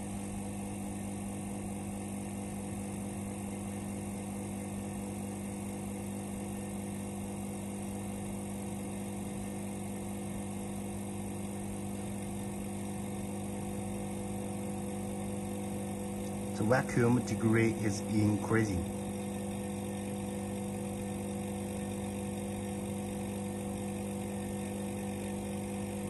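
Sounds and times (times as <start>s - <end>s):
vacuum pump humming: 0.0s - 26.0s.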